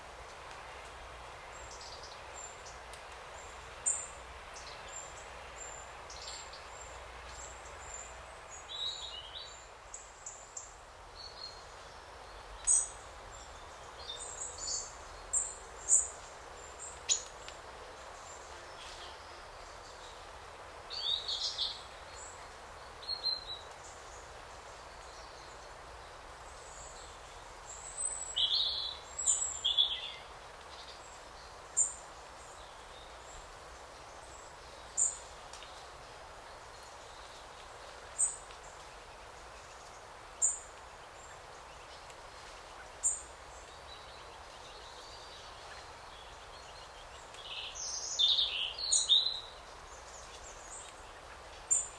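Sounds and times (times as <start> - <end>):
wind through trees: 0.0 - 51.9.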